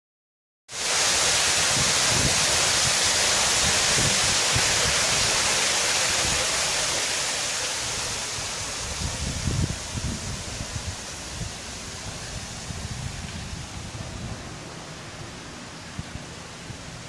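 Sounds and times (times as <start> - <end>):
water streams splashing into pool: 0.7 - 16.8.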